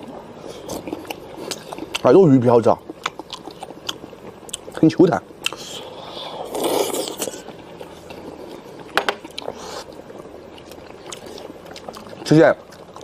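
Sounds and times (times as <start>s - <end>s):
person chewing: 0.1s - 2.1s, 2.8s - 4.8s, 5.4s - 13.0s.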